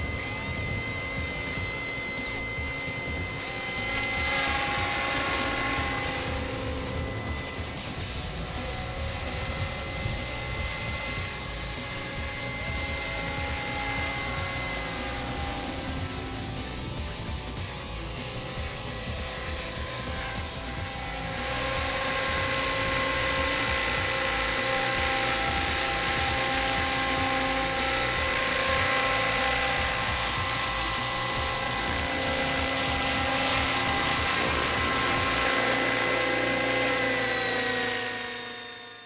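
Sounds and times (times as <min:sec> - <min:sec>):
model helicopter motor whine: 0:00.0 - 0:39.0
rotor rushing: 0:00.0 - 0:39.0.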